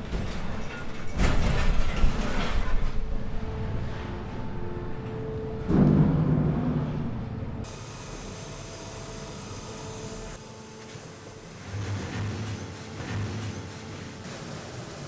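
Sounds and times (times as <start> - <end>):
machine noise: 0.0 - 15.0.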